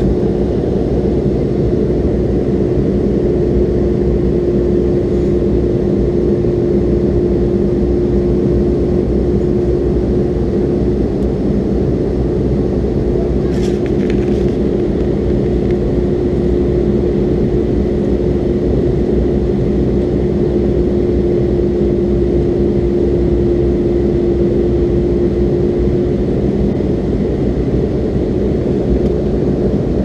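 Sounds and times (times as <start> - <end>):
airliner cabin engine rumble: 0.0 - 30.0
steady hum: 0.0 - 30.0.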